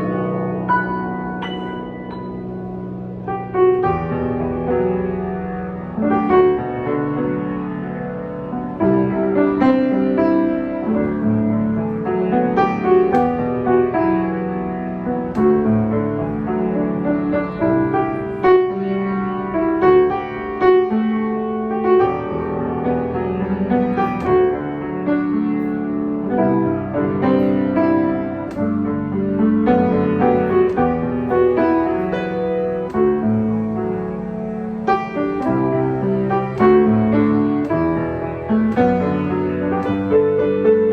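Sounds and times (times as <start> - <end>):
grand piano playing chords: 0.0 - 40.9.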